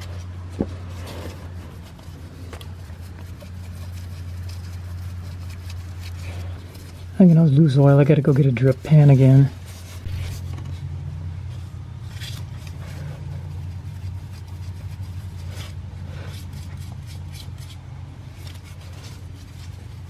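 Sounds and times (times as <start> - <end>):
light knocks and scrapes: 0.0 - 7.2, 8.2 - 20.0
low hum: 0.0 - 20.0.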